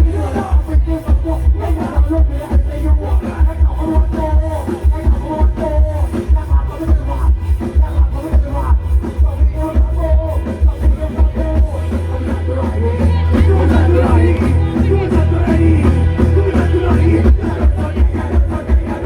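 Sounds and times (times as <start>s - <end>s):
loud music with pulsing bass: 0.0s - 19.0s.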